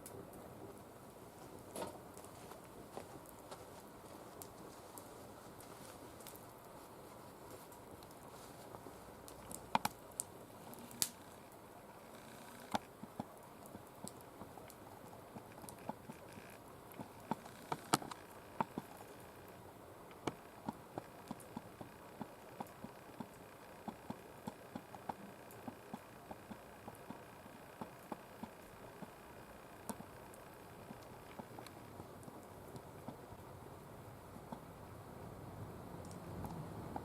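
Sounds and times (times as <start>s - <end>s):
twigs crackling and popping in fire: 0.0s - 34.7s.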